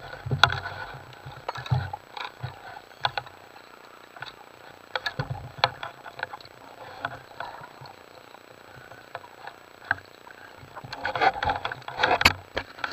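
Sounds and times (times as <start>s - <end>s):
underwater clicks and knocks: 0.2s - 3.4s, 4.2s - 7.9s, 9.1s - 12.9s.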